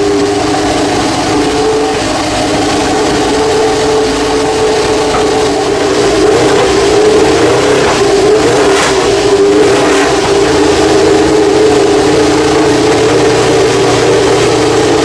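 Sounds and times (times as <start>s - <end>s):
racing car engine high revs: 0.0s - 15.0s.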